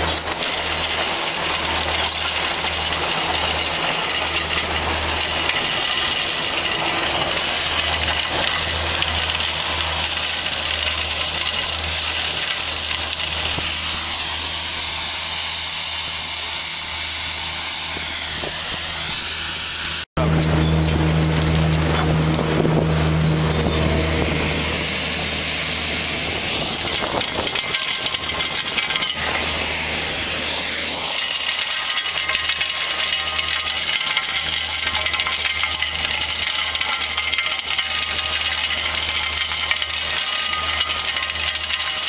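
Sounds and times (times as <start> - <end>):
engine hum: 0.0 - 42.0.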